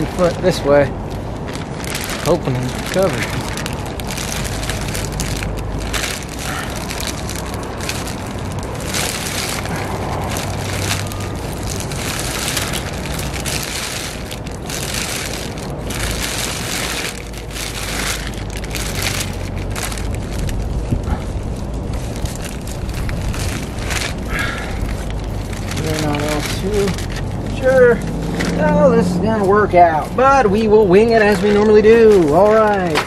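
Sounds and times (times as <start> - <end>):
plastic sheeting flapping: 0.0 - 33.0
wind rumbling on microphone: 0.0 - 33.0.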